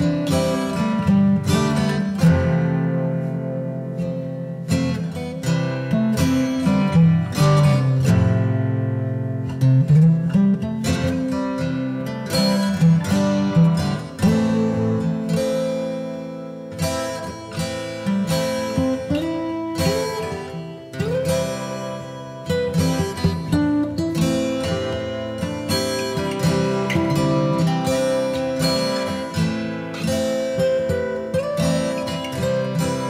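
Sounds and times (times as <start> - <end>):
plucked acoustic guitar melody: 0.0 - 33.0.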